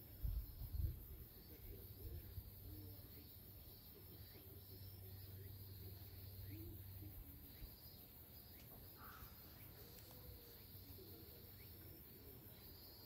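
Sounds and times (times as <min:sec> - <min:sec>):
high insect buzz: 0:00.0 - 0:13.0
bird chirps: 0:00.2 - 0:13.0.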